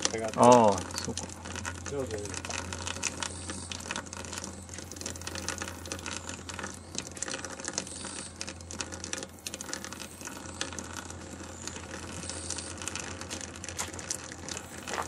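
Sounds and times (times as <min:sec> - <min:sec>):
honey press humming: 0:00.0 - 0:15.0
rapid clicking and crackling: 0:00.0 - 0:15.0.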